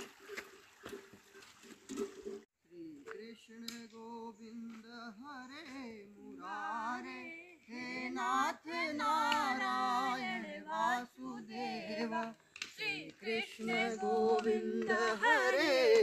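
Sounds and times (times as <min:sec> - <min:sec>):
person singing with vibrato: 0:02.7 - 0:16.0.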